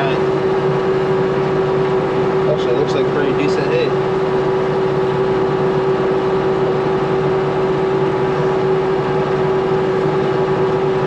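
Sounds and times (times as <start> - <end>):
tractor running: 0.0 - 11.0.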